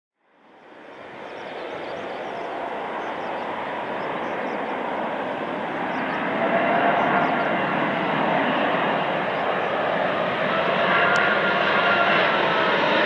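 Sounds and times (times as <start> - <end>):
faint engine whine: 0.2 - 13.0
jet engines rushing: 0.4 - 13.0.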